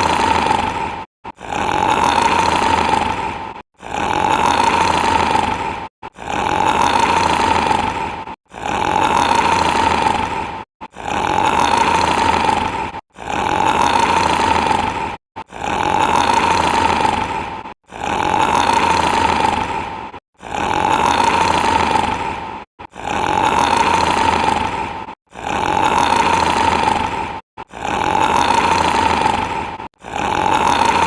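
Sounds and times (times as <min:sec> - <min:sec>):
loud rough snoring: 0:00.0 - 0:31.0.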